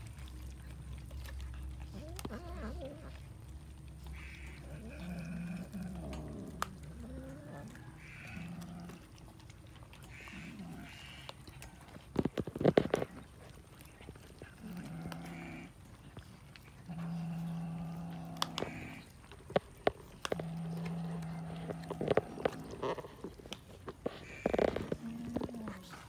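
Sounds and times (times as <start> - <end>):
cats growling and calling: 0.0 - 26.0.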